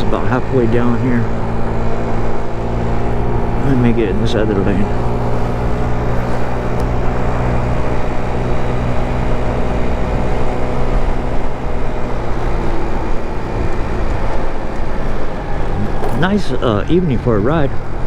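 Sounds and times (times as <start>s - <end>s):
road noise: 0.0s - 18.0s
scooter engine cruising: 0.0s - 18.0s
wind noise: 0.0s - 18.0s.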